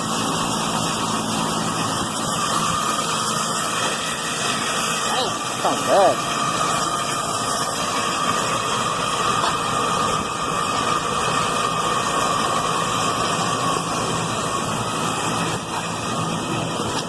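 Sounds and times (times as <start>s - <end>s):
compressor whine and hiss: 0.0s - 17.0s.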